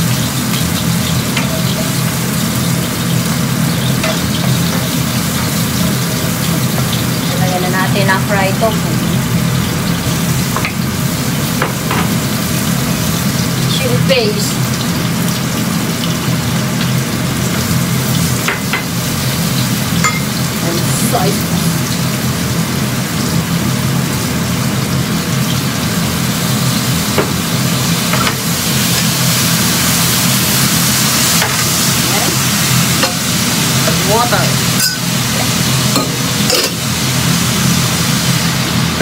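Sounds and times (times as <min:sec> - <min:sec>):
tofu sizzling in a frying pan: 0:00.0 - 0:39.0.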